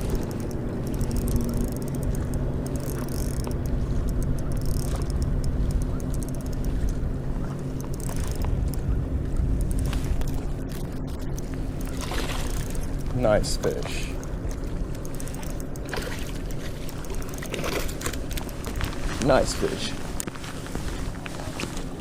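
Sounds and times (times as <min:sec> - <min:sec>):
faint clicks: 0:00.0 - 0:19.0
motor humming low: 0:00.0 - 0:22.0.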